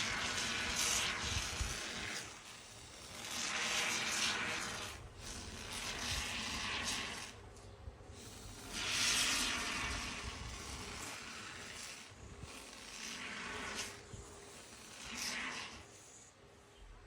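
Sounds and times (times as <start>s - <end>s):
spray foam can hissing: 0.0s - 7.4s, 8.2s - 16.2s.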